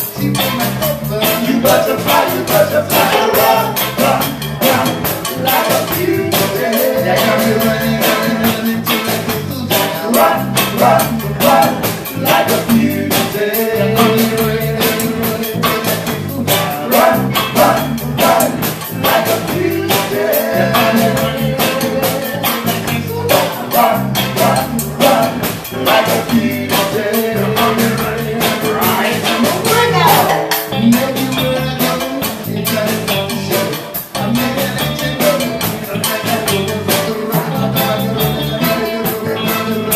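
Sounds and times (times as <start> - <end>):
drum kit beat: 0.0 - 39.9
guitar: 0.0 - 39.9
keyboards: 0.0 - 39.9
man singing into microphone: 0.0 - 39.9.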